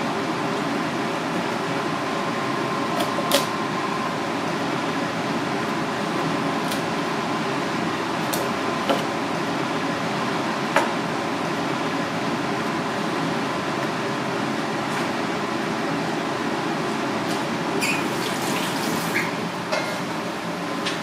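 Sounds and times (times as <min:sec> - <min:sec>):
fan whirring: 0:00.0 - 0:21.0.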